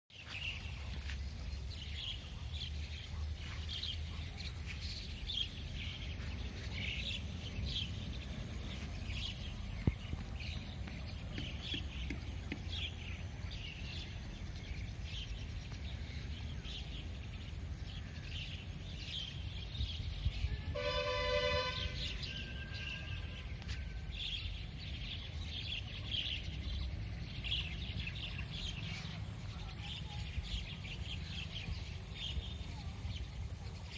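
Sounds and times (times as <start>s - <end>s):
birds chirping: 0.1s - 33.9s
low steady outdoor rumble: 0.3s - 33.9s.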